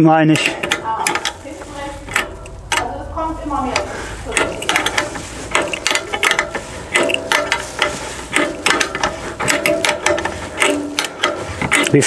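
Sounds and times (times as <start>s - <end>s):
hand ratchet clicking: 0.3s - 12.0s.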